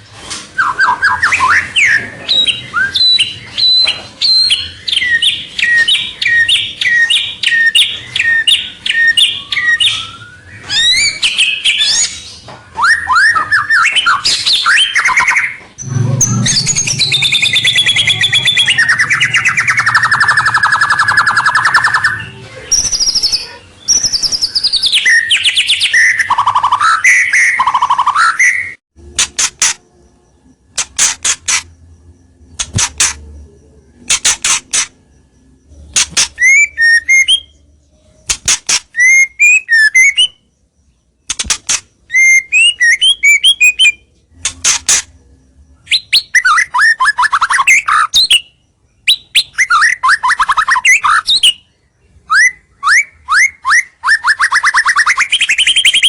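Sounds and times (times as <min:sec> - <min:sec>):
songbird singing: 0:00.6 - 0:56.0.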